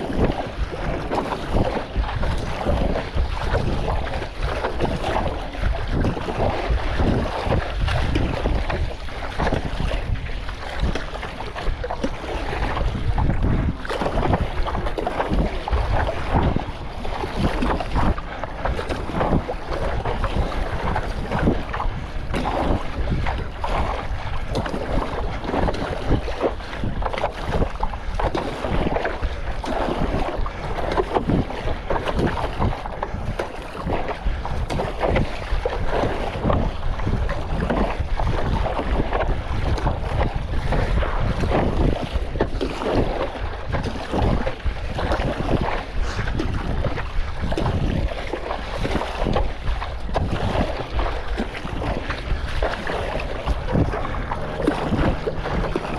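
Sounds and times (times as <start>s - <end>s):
seawater slapping and splashing: 0.0s - 55.9s
wind buffeting microphone: 0.0s - 55.9s.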